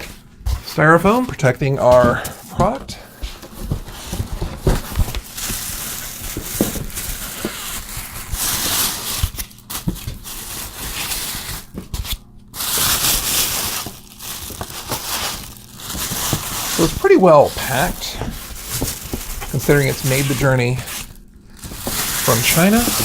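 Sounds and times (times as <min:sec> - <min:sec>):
styrofoam and cardboard scraping: 0:00.0 - 0:23.0.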